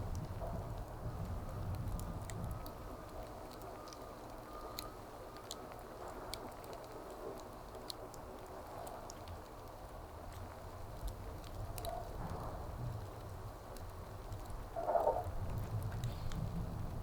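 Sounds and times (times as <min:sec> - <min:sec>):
wood fire popping: 0:00.0 - 0:17.0.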